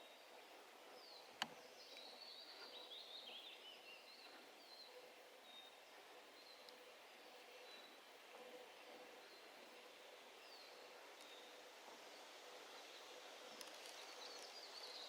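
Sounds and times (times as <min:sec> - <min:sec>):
soft background hiss: 0:00.0 - 0:15.0
songbirds singing: 0:00.0 - 0:15.0.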